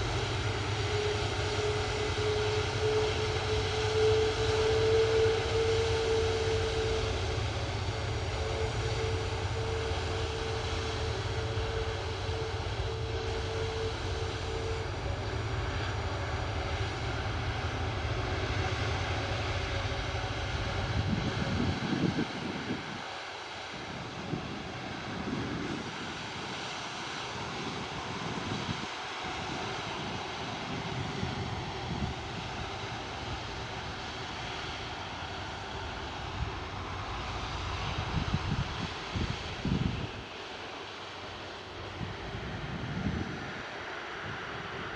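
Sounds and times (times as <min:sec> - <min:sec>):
jet engine rumble: 0:00.0 - 0:44.9
jet engine whine: 0:00.0 - 0:44.9.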